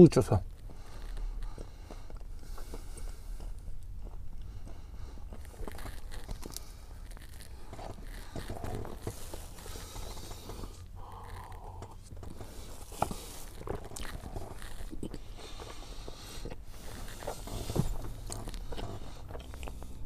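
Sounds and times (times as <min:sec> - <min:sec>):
chewing and biting pastry: 0:00.5 - 0:20.0.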